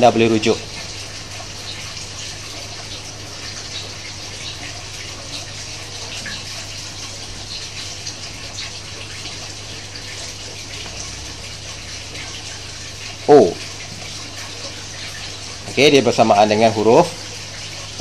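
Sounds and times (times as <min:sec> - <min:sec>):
rushing water-like noise: 0:00.0 - 0:18.0.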